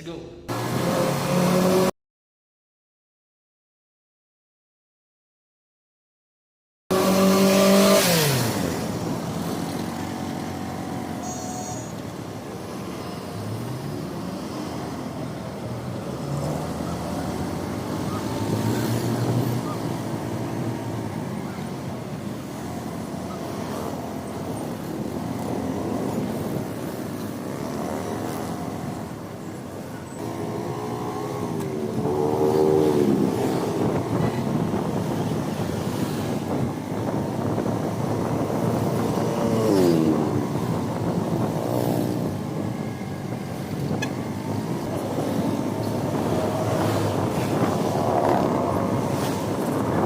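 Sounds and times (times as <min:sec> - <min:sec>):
road and wind noise: 0:00.0 - 0:01.9, 0:06.9 - 0:50.0.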